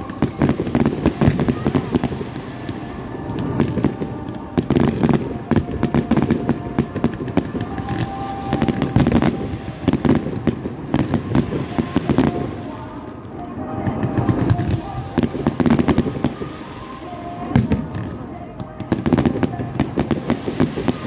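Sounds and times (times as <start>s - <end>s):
fireworks bangs and crackles: 0.0s - 21.0s
fireworks continuous rumble: 0.0s - 21.0s.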